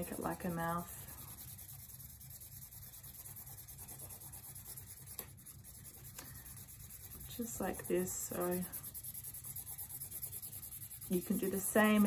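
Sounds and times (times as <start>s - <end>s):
pencil scribbling on card: 0.0s - 12.0s.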